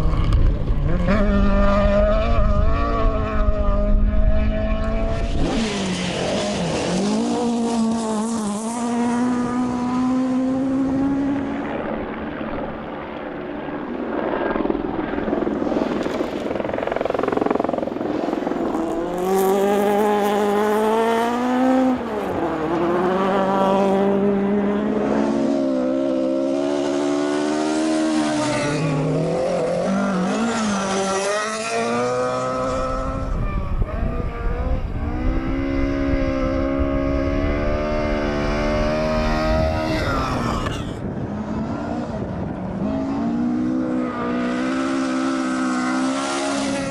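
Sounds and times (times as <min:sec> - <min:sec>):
rally car engine at full throttle: 0:00.0 - 0:46.9.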